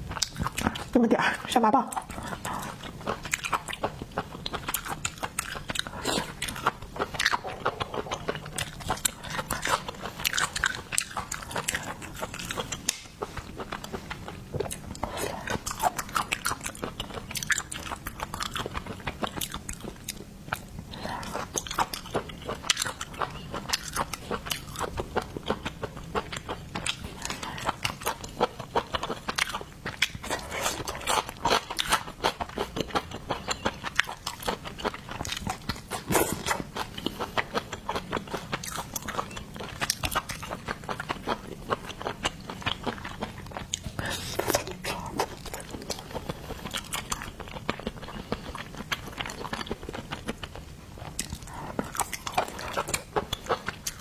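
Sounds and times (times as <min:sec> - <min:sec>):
crunching and chewing food: 0:00.0 - 0:54.0.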